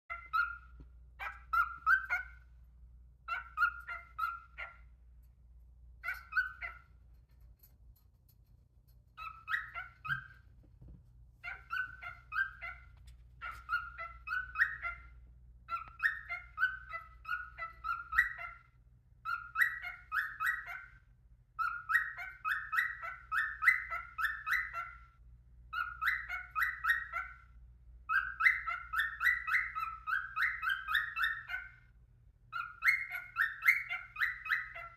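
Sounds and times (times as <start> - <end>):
cockatiel chirping: 0.1 - 2.6, 3.2 - 4.9, 6.0 - 7.0, 9.1 - 10.6, 11.4 - 34.9.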